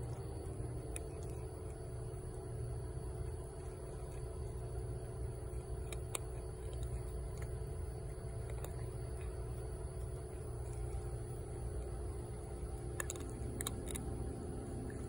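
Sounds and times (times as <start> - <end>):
cat crunching dry kibble: 0.0 - 15.0
low mechanical hum: 0.0 - 15.0.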